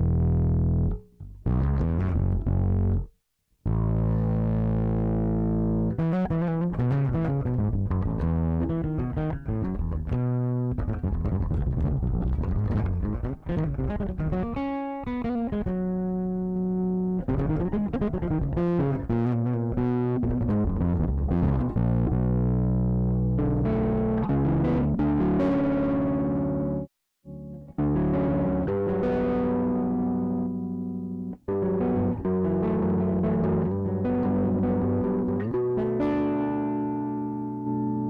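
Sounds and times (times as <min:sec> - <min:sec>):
overdriven electric bass guitar: 0:00.0 - 0:03.1, 0:03.7 - 0:38.0.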